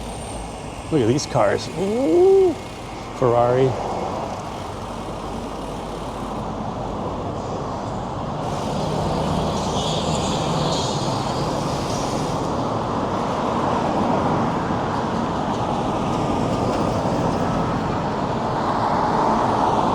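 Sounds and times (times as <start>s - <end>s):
cars passing: 0.0s - 19.9s.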